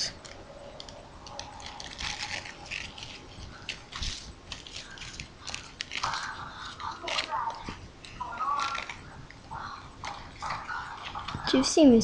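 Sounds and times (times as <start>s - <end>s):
plastic wrappers rustling: 0.1s - 12.0s.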